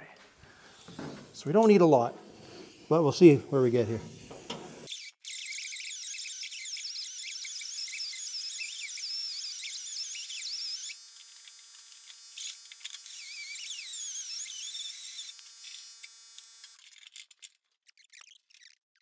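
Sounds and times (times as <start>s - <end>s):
grinder whining on metal: 2.8s - 18.8s.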